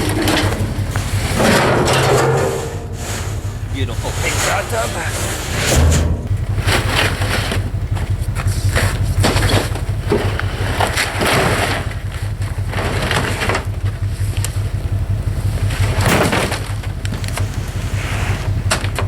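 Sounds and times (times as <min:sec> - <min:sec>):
short noisy rattles and scrapes: 0:00.0 - 0:14.6, 0:15.4 - 0:19.0
vehicle engine humming: 0:00.0 - 0:19.0.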